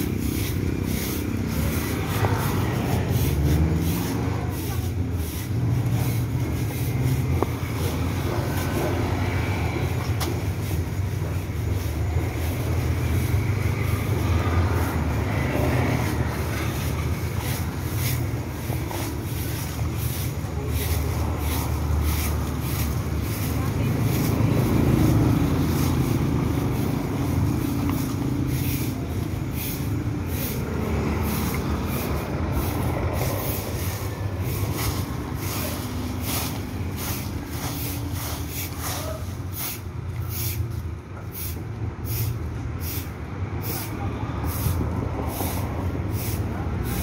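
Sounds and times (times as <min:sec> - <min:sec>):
vehicle engine passing: 0:00.0 - 0:39.7
broom sweeping dry leaves: 0:00.0 - 0:47.0
street traffic rumble: 0:00.0 - 0:47.0.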